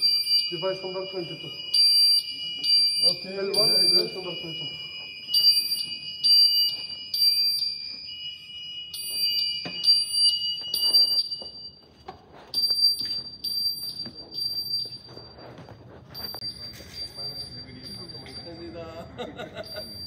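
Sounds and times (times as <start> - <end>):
high pulsing alarm beeps: 0.0 - 20.0
steady lower alarm tone: 0.0 - 20.0.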